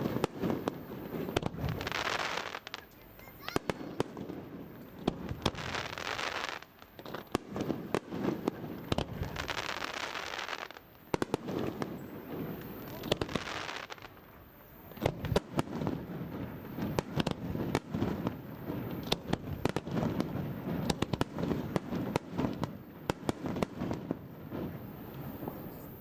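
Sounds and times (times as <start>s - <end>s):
firework hiss: 0.0s - 26.0s
fireworks bursting with sharp bangs: 0.0s - 26.0s.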